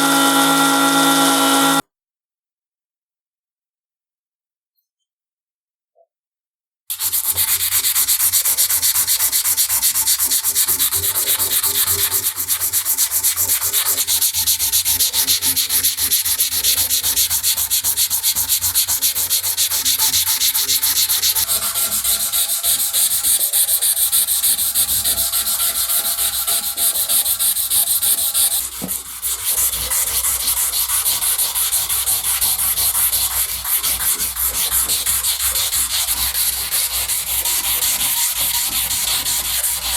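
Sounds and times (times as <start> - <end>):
sandpaper rasping on metal: 6.9 - 39.9.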